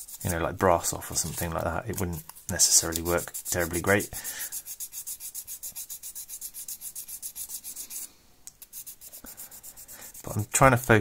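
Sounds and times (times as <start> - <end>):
abrasive paper rubbing on brass: 0.0 - 1.6, 2.6 - 8.1, 8.7 - 11.0.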